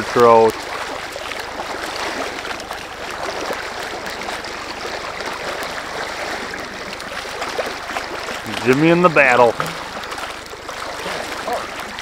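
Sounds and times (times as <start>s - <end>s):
fish splashing at surface: 0.0s - 12.0s
stream water rushing: 0.0s - 12.0s.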